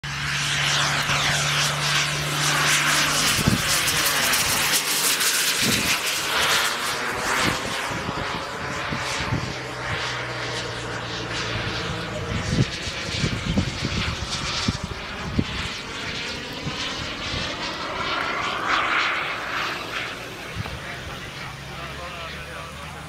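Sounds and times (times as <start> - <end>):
model jet whooshing past: 0.0 - 23.0.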